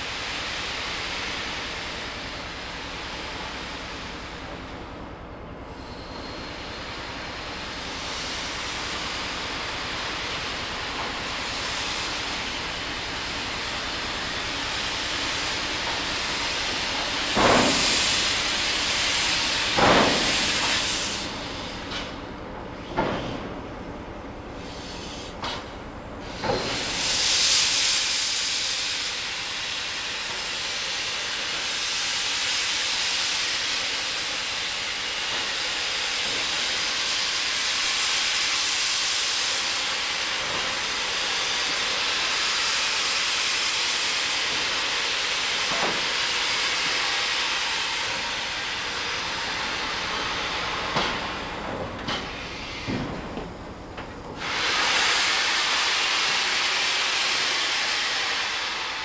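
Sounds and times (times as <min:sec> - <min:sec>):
steam hissing from locomotive: 0:00.0 - 0:59.0.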